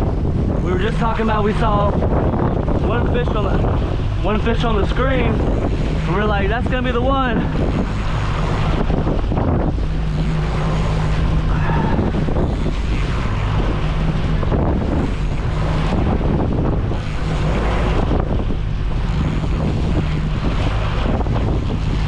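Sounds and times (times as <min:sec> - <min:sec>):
boat engine running: 0:00.0 - 0:22.0
wind buffeting microphone: 0:00.0 - 0:22.0.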